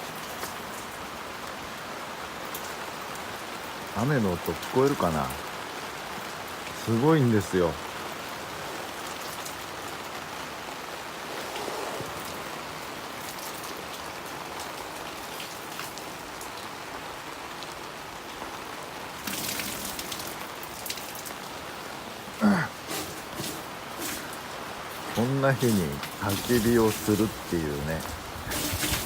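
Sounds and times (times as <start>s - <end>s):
heavy rain drumming on tarp: 0.0s - 29.0s.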